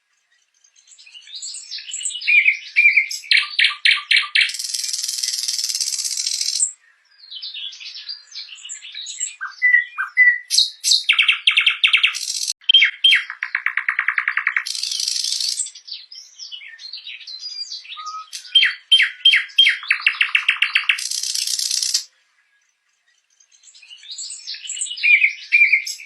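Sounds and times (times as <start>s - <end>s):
nightingale singing: 0.0s - 26.0s.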